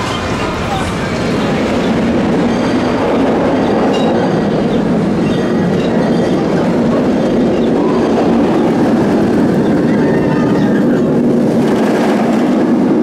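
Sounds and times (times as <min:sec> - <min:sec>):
train wheels clattering on track: 0:00.0 - 0:13.0.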